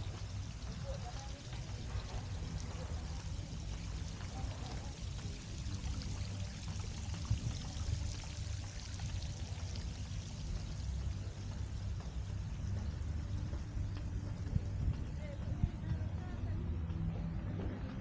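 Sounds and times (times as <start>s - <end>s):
fountain water splashing: 0.0s - 17.4s
low fluttering rumble: 0.0s - 18.0s.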